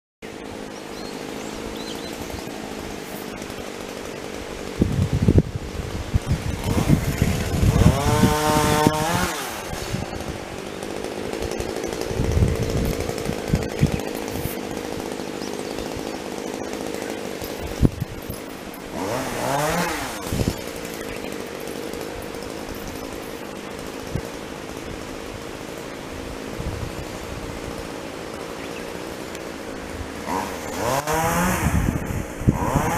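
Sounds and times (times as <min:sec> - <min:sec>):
small engine revving: 0:00.2 - 0:32.9.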